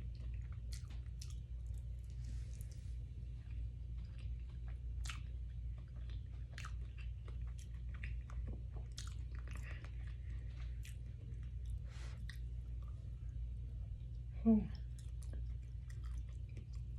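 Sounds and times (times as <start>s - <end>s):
person chewing food: 0.0s - 16.9s
steady low hum: 0.0s - 16.9s.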